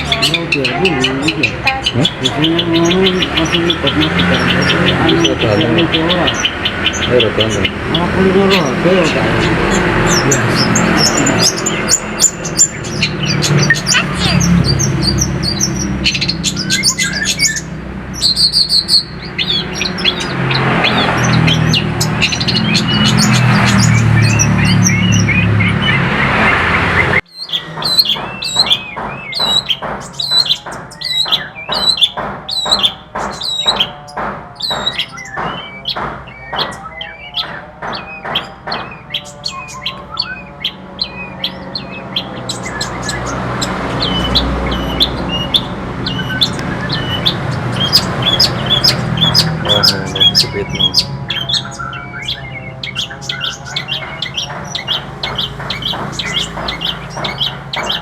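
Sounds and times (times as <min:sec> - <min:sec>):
noisy background: 0:00.0 - 0:58.0
songbird singing: 0:00.0 - 0:58.0.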